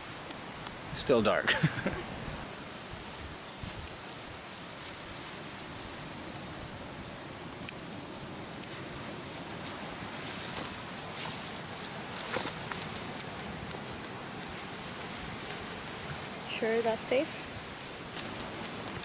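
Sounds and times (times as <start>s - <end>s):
background hiss: 0.0s - 19.0s
night insects trilling: 0.0s - 19.0s.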